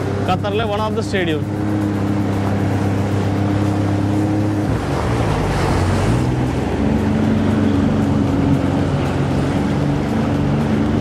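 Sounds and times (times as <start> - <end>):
jet ski engine droning: 0.0 - 11.0
water rushing: 0.0 - 11.0.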